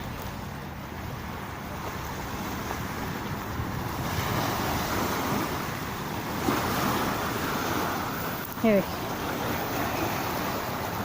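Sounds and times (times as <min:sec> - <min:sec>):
sea waves washing on beach: 0:00.0 - 0:11.0.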